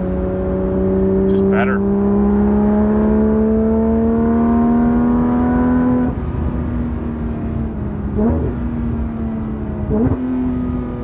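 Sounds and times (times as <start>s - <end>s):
car engine revving under throttle: 0.0s - 11.0s.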